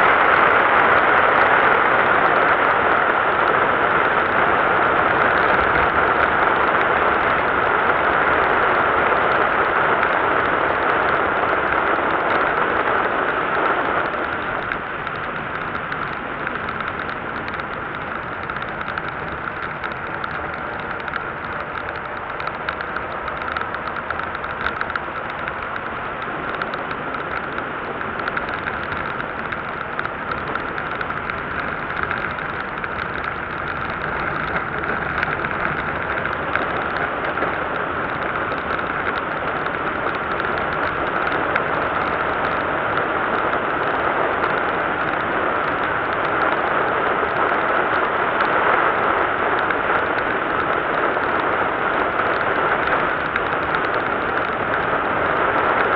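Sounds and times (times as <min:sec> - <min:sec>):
wind rush: 0:00.0 - 0:55.9.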